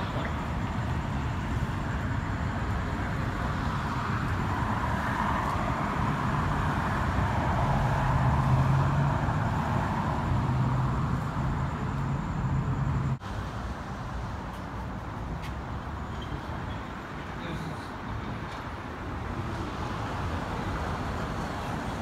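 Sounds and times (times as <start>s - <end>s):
urban traffic noise: 0.0s - 22.0s.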